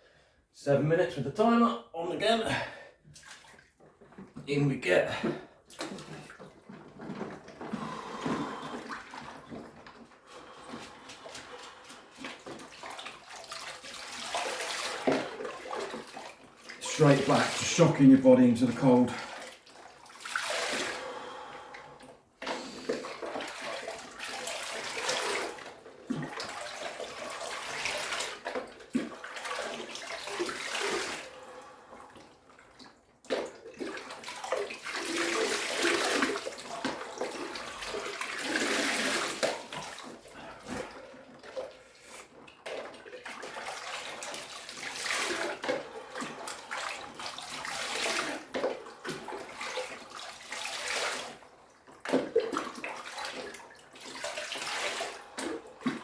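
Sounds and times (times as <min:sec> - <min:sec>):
water pouring and splashing: 0:03.1 - 0:56.0.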